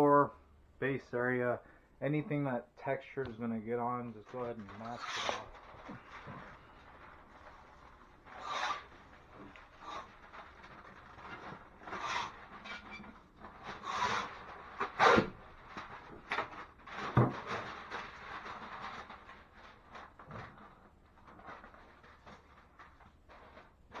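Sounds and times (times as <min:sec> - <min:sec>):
plastic sheeting crinkling: 0:03.0 - 0:24.0.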